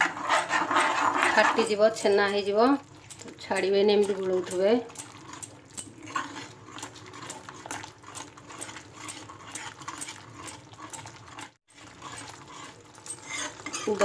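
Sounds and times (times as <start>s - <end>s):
spoon scraping frying pan: 0.0s - 14.0s.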